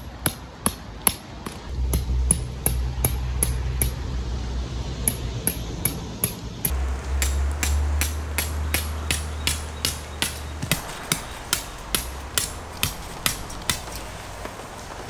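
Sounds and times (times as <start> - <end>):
tent pegs being hammered: 0.0 - 4.0, 5.1 - 15.0
low steady hum: 1.6 - 15.0.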